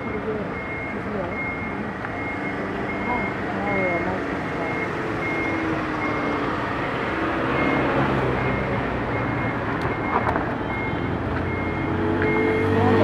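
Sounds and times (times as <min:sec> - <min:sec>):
reversing alarm beeps: 0:00.0 - 0:06.6, 0:07.4 - 0:13.0.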